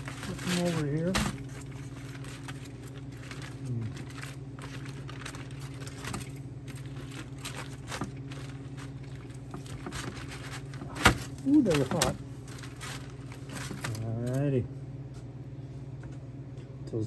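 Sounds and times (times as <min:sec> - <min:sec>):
aluminium foil crinkling: 0:00.0 - 0:14.4
steady low hum: 0:00.0 - 0:17.0.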